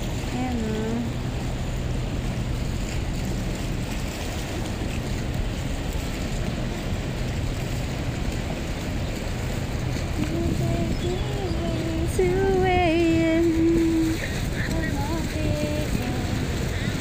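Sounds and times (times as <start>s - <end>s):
water along shore: 0.0s - 17.0s
wind on microphone: 0.0s - 17.0s.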